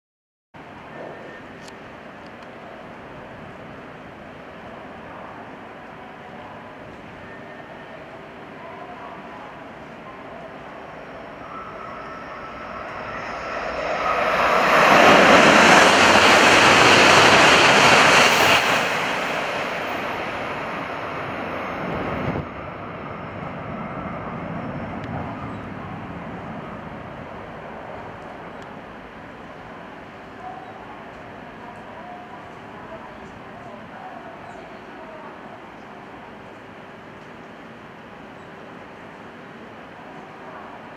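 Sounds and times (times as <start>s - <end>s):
high-speed train passing: 0.6s - 40.9s.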